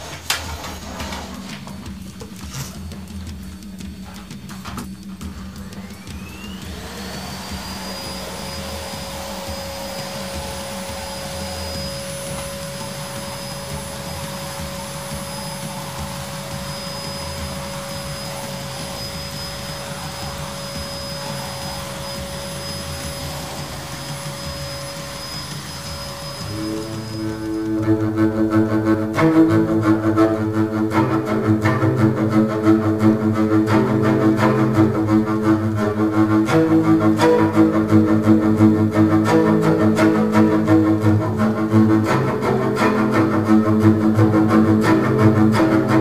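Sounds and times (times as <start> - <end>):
vacuum cleaner on carpet: 0.0 - 46.0.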